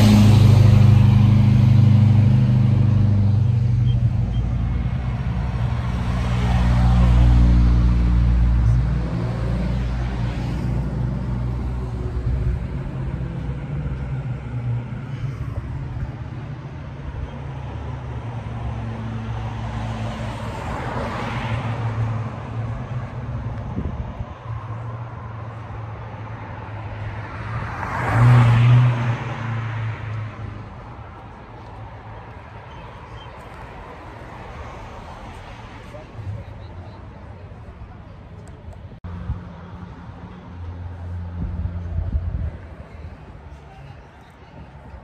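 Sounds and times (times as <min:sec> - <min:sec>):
car engines rumbling: 0:00.0 - 0:45.0.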